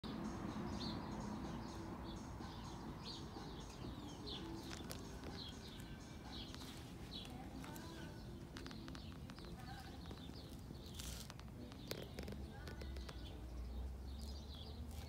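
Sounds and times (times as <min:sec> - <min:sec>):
small bird chirping: 0:00.1 - 0:15.0.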